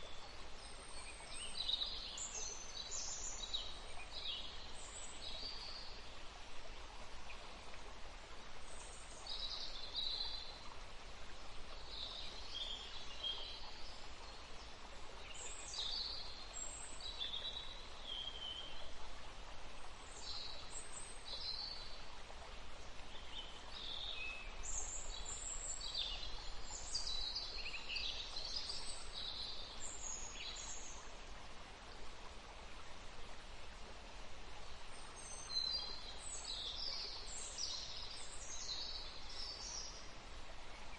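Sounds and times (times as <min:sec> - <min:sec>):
soft background hiss: 0:00.0 - 0:40.9
songbirds chirping: 0:00.0 - 0:40.9.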